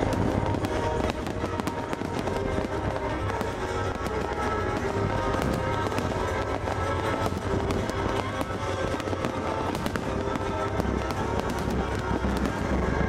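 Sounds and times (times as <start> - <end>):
fireworks bursting and crackling: 0.0 - 13.0
soundtrack music: 0.0 - 13.0.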